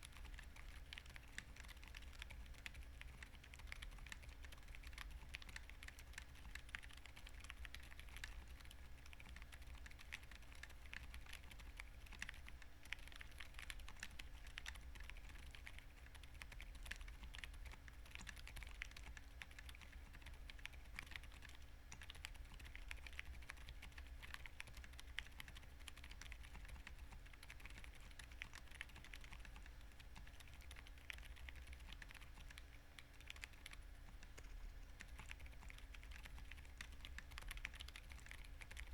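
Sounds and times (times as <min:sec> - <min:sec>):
faint steady hum: 0:00.0 - 0:38.9
soft keyboard typing: 0:00.0 - 0:38.9.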